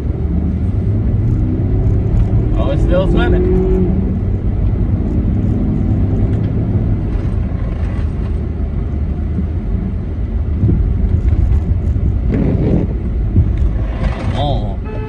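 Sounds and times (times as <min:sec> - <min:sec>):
car engine rumbling: 0:00.0 - 0:15.0
tyre and road noise: 0:00.0 - 0:15.0.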